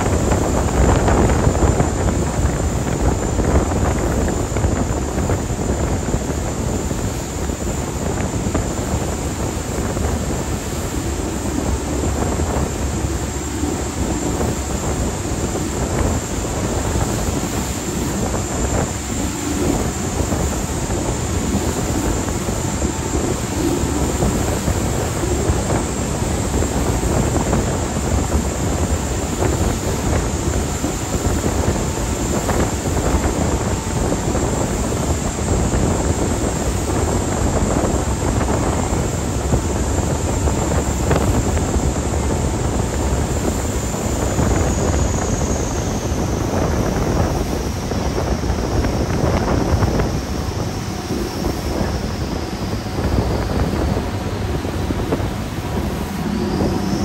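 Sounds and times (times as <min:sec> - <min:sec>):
engine drone: 0:00.0 - 0:57.0
rushing water: 0:00.0 - 0:57.0
thin high whine: 0:00.0 - 0:57.0
wind on microphone: 0:00.0 - 0:57.0.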